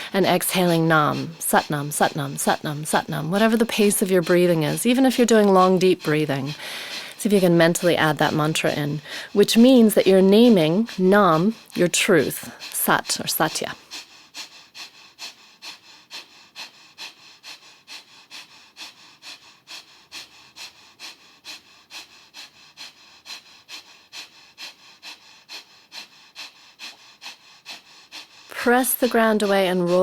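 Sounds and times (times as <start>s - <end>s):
rapid rhythmic nose breathing: 0.0s - 30.0s.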